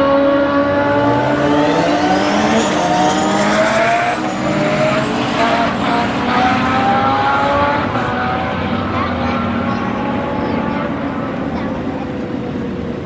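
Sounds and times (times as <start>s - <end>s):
motorbike engine accelerating: 0.0s - 11.6s.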